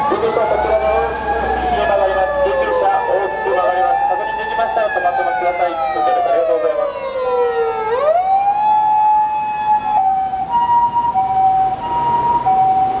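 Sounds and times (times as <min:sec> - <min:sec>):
two-tone hi-lo siren: 0:00.0 - 0:13.0
wailing siren: 0:00.0 - 0:13.0.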